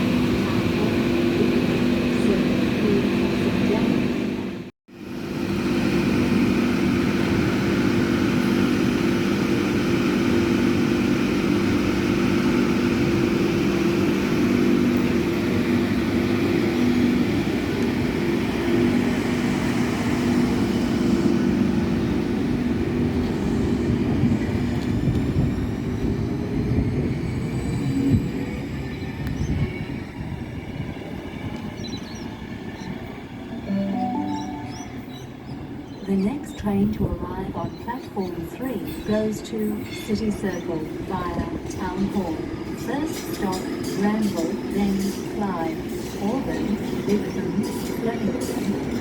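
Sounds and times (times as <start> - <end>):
train rumble: 0.0 - 33.7, 34.3 - 49.0
train hum with held tones: 0.0 - 49.0.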